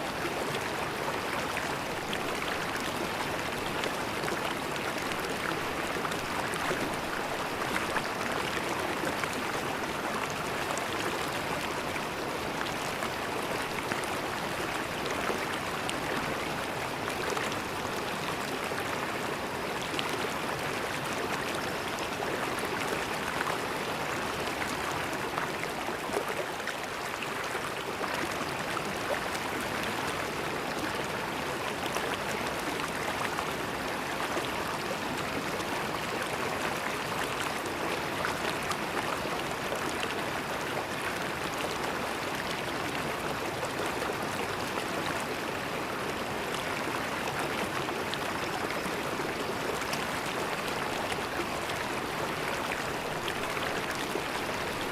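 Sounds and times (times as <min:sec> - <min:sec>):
river water flowing over rocks: 0:00.0 - 0:54.9.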